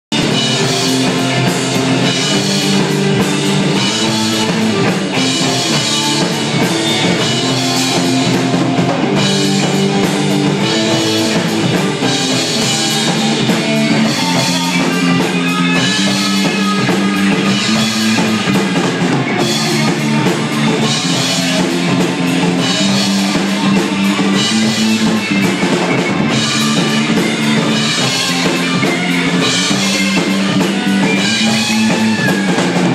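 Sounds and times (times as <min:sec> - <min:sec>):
rock music: 0:00.0 - 0:32.9.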